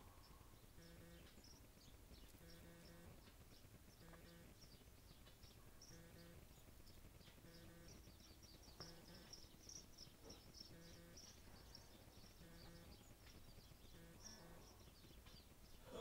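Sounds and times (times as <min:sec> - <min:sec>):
small songbirds chirping: 0:00.0 - 0:16.0.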